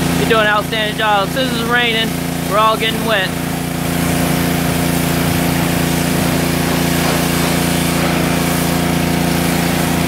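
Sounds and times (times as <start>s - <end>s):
pressure washer engine running: 0.0s - 10.0s
high-pressure spray hissing: 1.2s - 10.0s.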